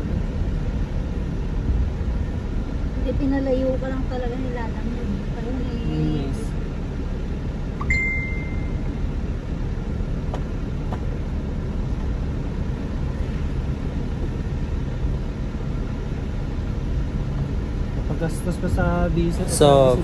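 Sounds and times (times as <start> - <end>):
truck engine and road noise: 0.0 - 20.0.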